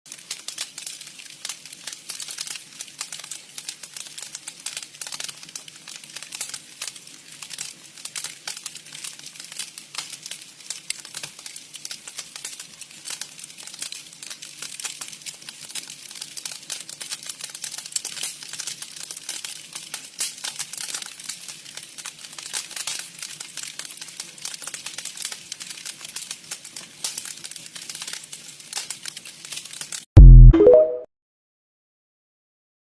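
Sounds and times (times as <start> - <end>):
campfire crackling: 0.1 - 30.0.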